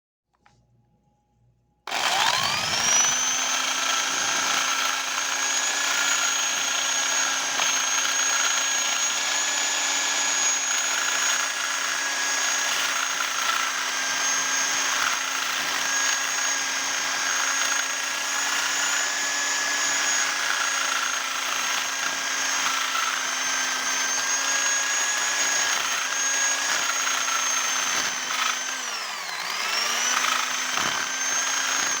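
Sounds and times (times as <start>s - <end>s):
electric drill spinning: 1.9s - 32.0s.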